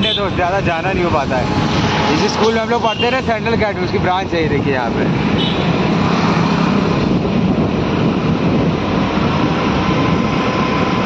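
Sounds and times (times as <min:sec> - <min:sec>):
vehicle engine and road noise: 0:00.0 - 0:11.0
wind on microphone: 0:00.0 - 0:11.0.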